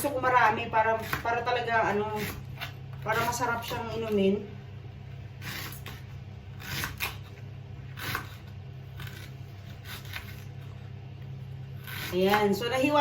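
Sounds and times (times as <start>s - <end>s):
knife slicing ginger: 0.0s - 4.4s, 5.3s - 10.8s, 11.6s - 13.0s
steady low hum: 0.0s - 13.0s.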